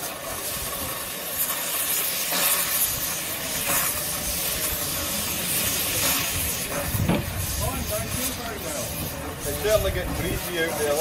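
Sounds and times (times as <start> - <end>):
steam venting hiss: 0.0 - 11.0.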